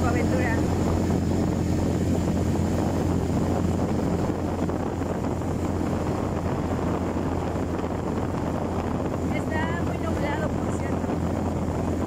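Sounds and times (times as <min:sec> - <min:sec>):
vehicle engine running: 0:00.0 - 0:12.0
wind buffeting microphone: 0:00.0 - 0:12.0.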